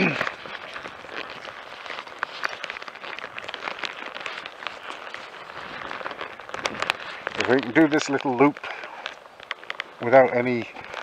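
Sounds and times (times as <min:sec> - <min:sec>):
fabric rustling against microphone: 0:00.0 - 0:11.0.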